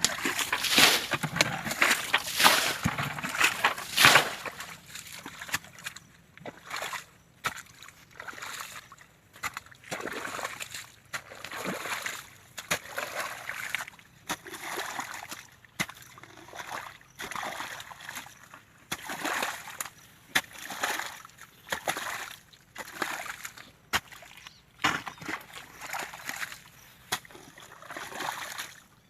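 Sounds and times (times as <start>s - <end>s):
water splashing and sloshing: 0.0s - 29.0s.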